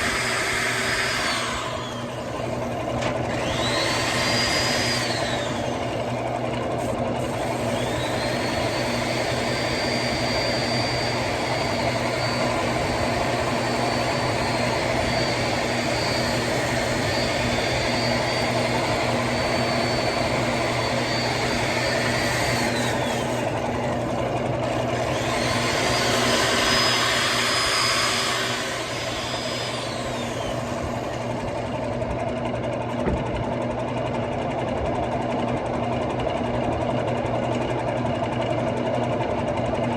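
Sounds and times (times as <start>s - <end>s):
wood lathe running: 0.0s - 32.5s
power sander whine: 0.0s - 33.6s.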